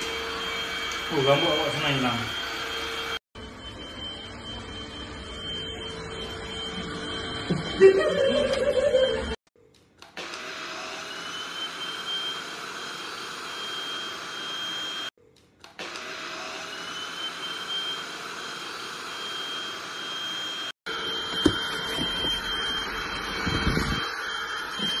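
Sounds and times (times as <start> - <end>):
stick vacuum cleaner running: 0.0 - 9.4, 10.2 - 15.1, 15.8 - 25.0.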